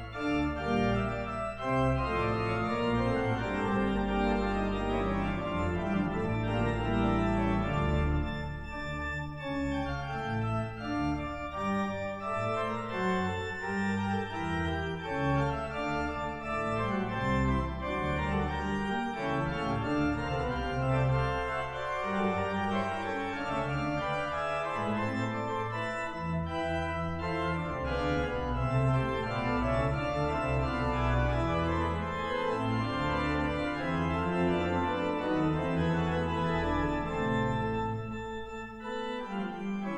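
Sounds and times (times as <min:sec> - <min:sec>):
pipe organ playing: 0:00.0 - 0:39.9
sustained organ pedal bass: 0:00.0 - 0:39.9.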